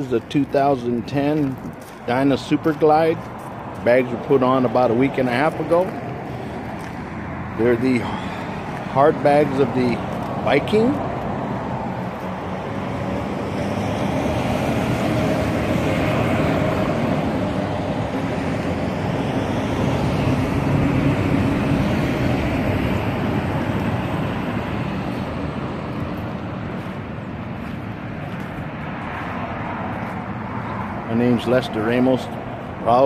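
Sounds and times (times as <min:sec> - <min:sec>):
vehicle engine: 0:00.0 - 0:33.0.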